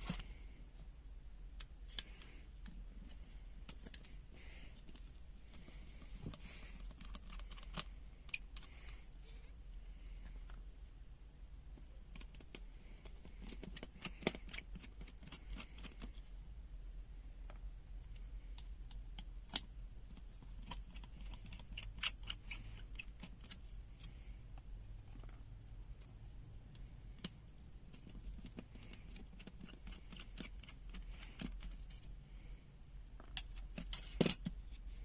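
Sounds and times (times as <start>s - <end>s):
low steady hum: 0.0s - 35.0s
plastic parts clicking and tapping: 1.6s - 8.9s, 11.8s - 16.3s, 17.4s - 32.2s, 33.1s - 35.0s.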